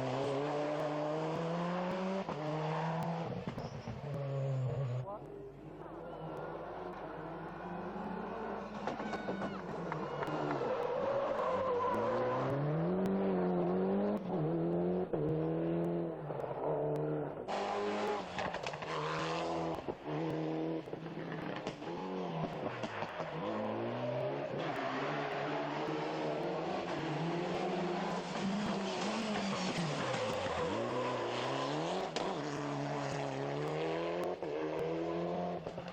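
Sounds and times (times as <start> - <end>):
rally car engine revving: 0.0 - 5.2, 5.8 - 35.9.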